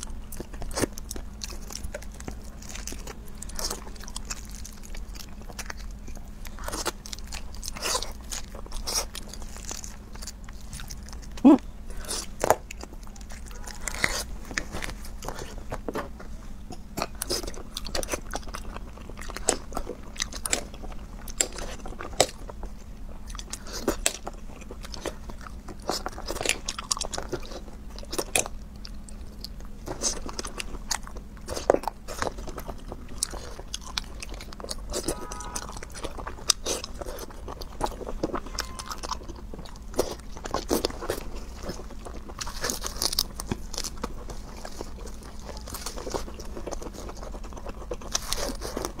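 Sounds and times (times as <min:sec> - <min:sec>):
person chewing and crunching food: 0:00.0 - 0:49.0.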